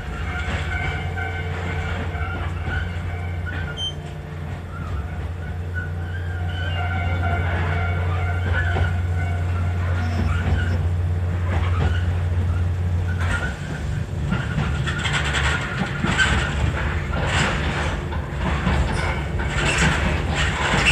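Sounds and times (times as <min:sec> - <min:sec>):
electric train hum: 0:00.0 - 0:20.9
wheels clicking and rattling on rails: 0:00.0 - 0:20.9.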